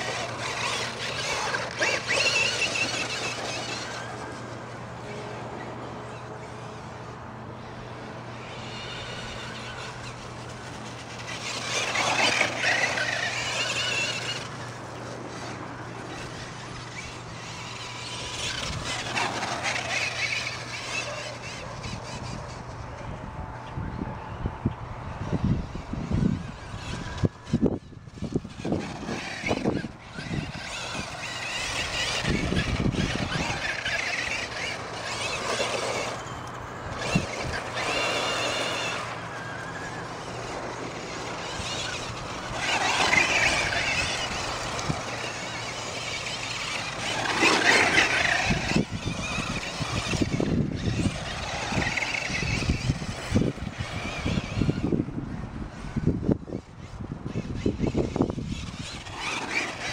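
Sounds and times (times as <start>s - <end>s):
rc truck motor whine: 0.0s - 59.9s
tyres churning ground: 0.0s - 59.9s.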